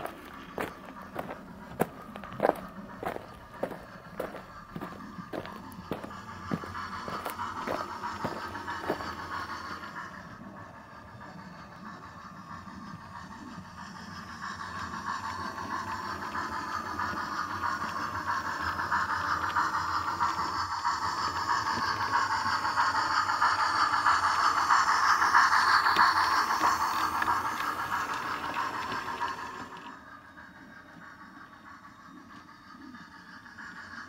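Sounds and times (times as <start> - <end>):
model train rattling on track: 0.0 - 34.0.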